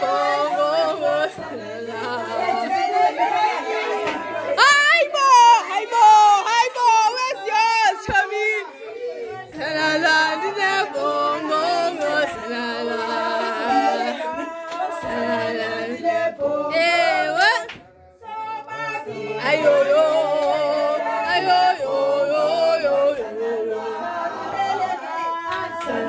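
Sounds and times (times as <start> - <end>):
a cappella group singing: 0.0 - 26.0.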